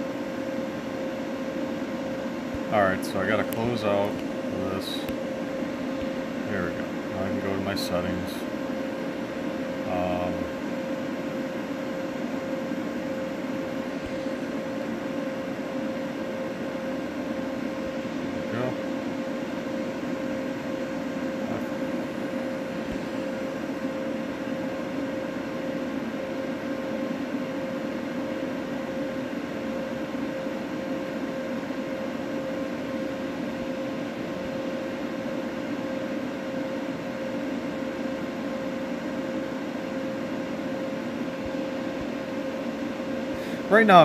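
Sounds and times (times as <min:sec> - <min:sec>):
steady machine hum: 0:00.0 - 0:44.0.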